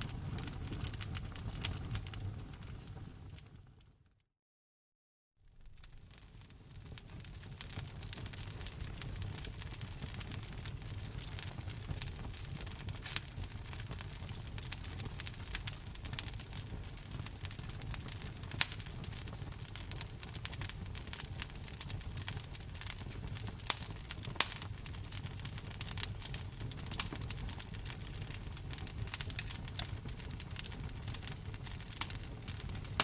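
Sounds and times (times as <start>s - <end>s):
loud fire pops: 0.0s - 3.5s, 5.6s - 33.0s
wood fire crackling: 0.0s - 3.9s, 5.5s - 33.0s.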